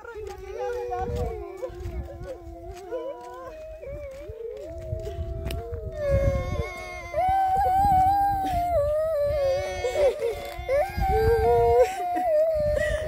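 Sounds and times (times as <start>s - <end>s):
young children crying: 0.0s - 13.0s.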